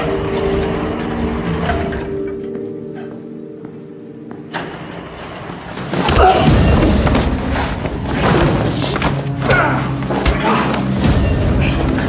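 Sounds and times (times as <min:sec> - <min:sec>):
dramatic score music: 0:00.0 - 0:12.0.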